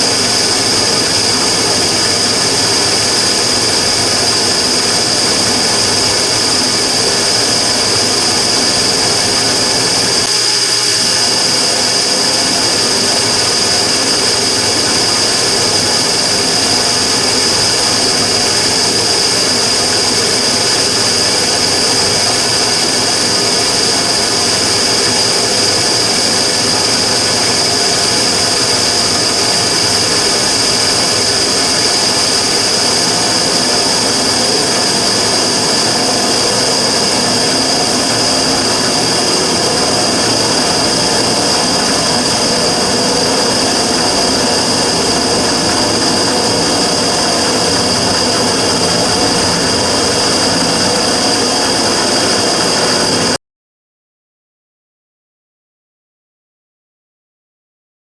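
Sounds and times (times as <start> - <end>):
burner rushing roar: 0.0 - 53.4
high-pitched whine: 0.0 - 53.4.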